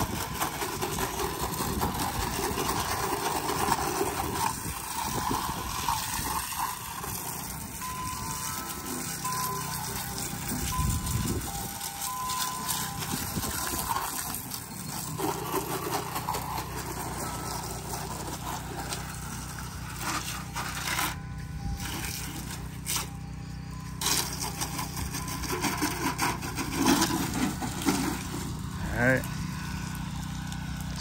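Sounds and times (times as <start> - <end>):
water spray hissing on siding: 0.0 - 23.2, 24.0 - 31.0
pump motor humming: 0.0 - 31.0.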